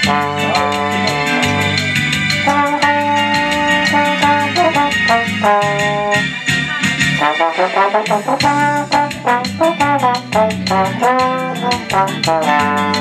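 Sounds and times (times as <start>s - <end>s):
trombone playing a melody: 0.0s - 6.3s, 7.2s - 13.0s
drums and bass backing track: 0.0s - 13.0s.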